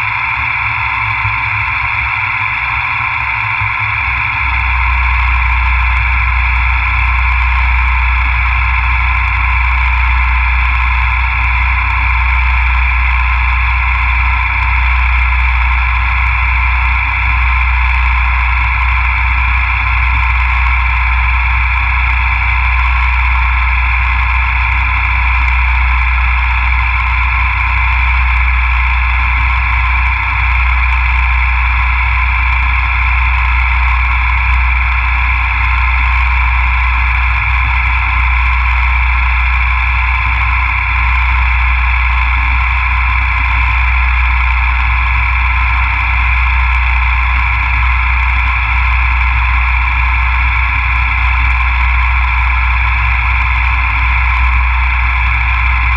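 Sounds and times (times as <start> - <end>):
milling machine whine: 0.0 - 55.9.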